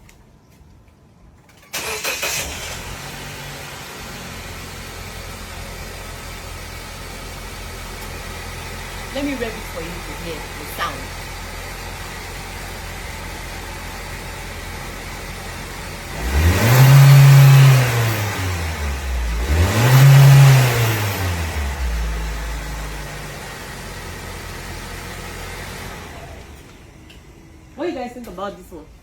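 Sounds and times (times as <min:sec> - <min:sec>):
car engine idling and revving: 0:01.6 - 0:27.8.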